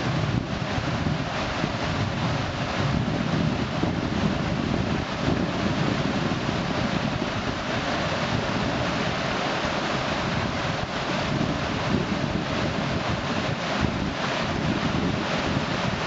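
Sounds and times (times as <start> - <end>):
river rapids rushing: 0.0 - 16.0
wind buffeting microphone: 0.0 - 16.0.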